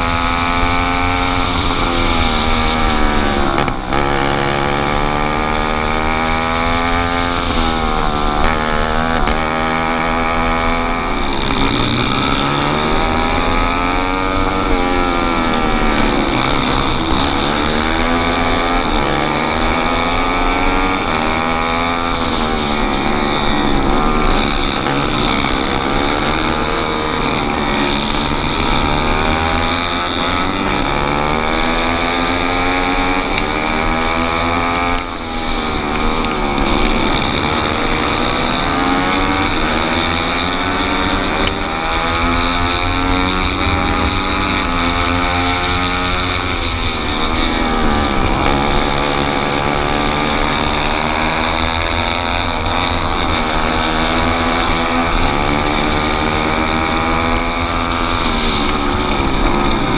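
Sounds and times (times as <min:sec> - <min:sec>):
kart engine accelerating and slowing: 0:00.0 - 0:59.9.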